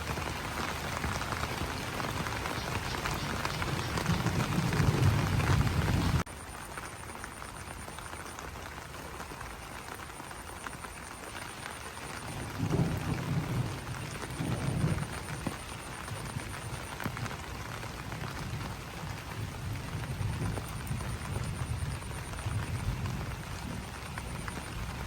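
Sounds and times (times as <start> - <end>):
rain on leaves: 0.0 - 25.0.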